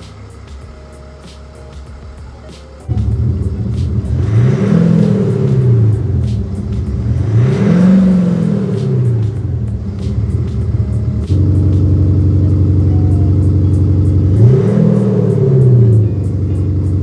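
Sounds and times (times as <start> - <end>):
synthetic car engine note revving: 0.0 - 17.0.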